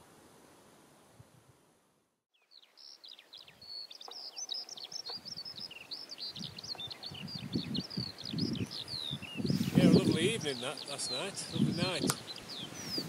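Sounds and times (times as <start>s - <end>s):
songbirds chirping and trilling: 2.4s - 13.0s.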